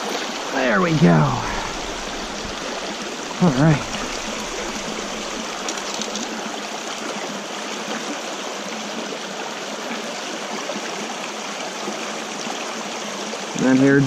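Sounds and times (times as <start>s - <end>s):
stream water running over rocks: 0.0s - 14.0s.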